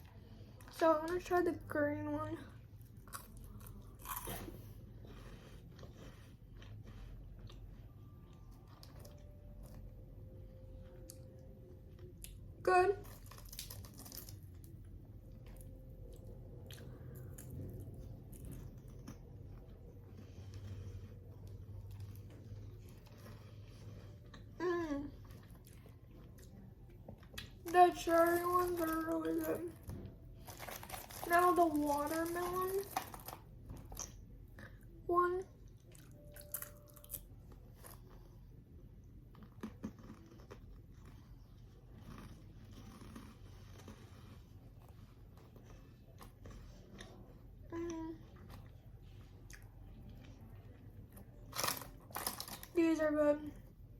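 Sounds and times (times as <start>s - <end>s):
person chewing crunchy candy: 2.7s - 10.0s, 10.8s - 34.9s, 35.6s - 38.5s, 39.1s - 52.8s.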